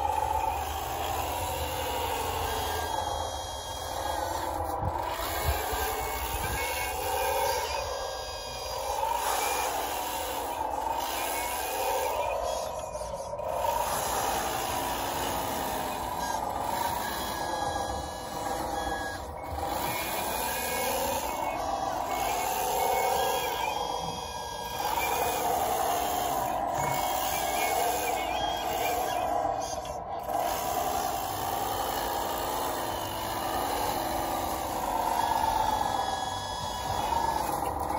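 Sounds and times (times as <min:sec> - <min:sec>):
electric motors whining: 0:00.0 - 0:37.9.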